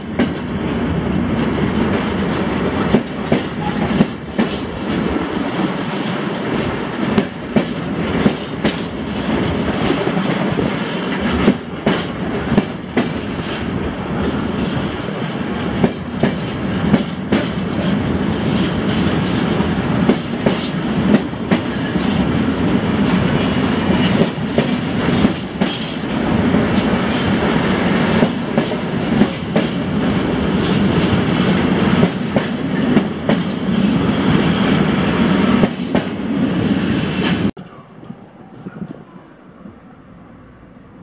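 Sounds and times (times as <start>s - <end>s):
wheels clacking over rail joints: 0.0s - 37.6s.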